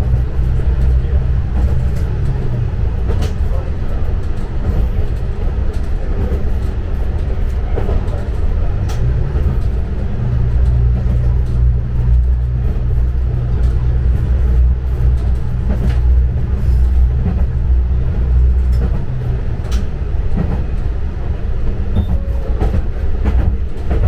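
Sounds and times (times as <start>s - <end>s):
rail clicks: 0.0s - 24.0s
railcar engine drone: 0.0s - 24.0s.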